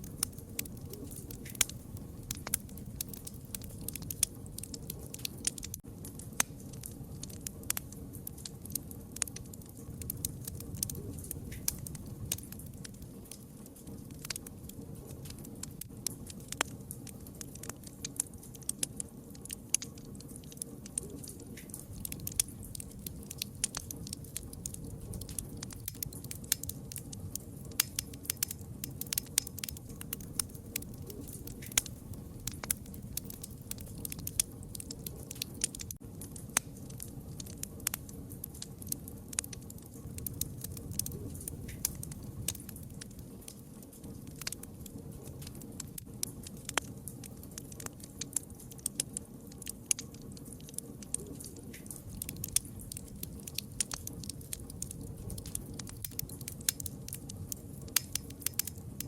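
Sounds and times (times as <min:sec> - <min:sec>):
campfire pops and snaps: 0:00.0 - 0:59.0
fire rumbling: 0:00.0 - 0:59.0.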